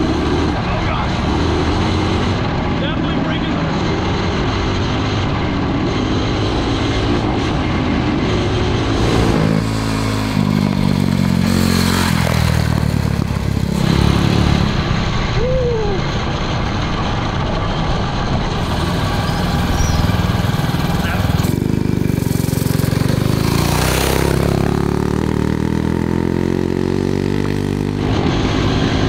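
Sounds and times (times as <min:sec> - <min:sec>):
motorbike engine revving: 0:00.0 - 0:29.0.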